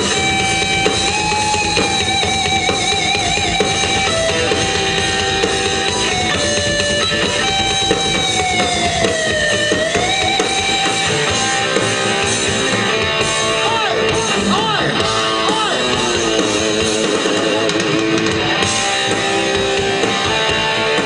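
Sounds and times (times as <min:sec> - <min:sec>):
drums: 0:00.0 - 0:21.0
electric guitar lead: 0:00.0 - 0:21.0
rock band playing: 0:00.0 - 0:21.0.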